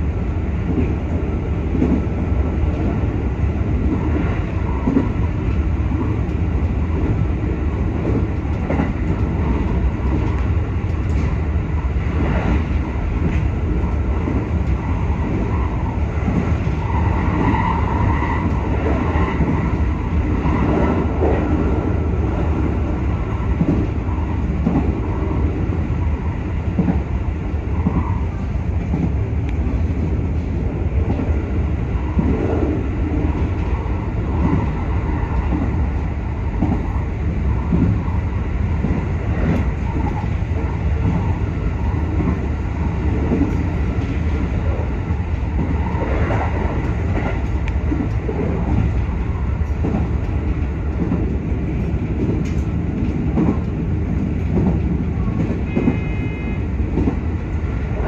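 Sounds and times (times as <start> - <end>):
rail joint clicks: 0.0 - 58.0
train wheels rumbling on rail: 0.0 - 58.0.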